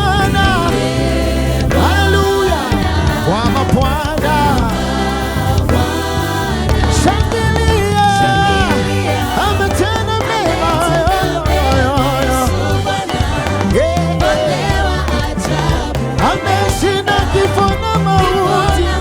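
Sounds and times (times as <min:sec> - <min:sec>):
bass guitar: 0:00.0 - 0:19.0
drums keeping a steady beat: 0:00.0 - 0:19.0
people singing: 0:00.0 - 0:19.0.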